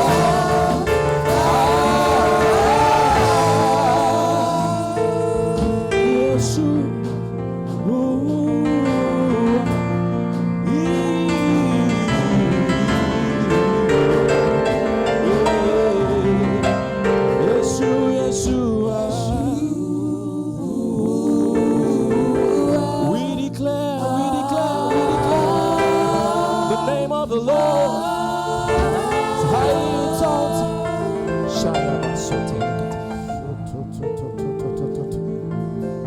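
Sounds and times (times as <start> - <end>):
person singing: 0.0 - 36.0
sustained keyboard chords: 0.0 - 36.0.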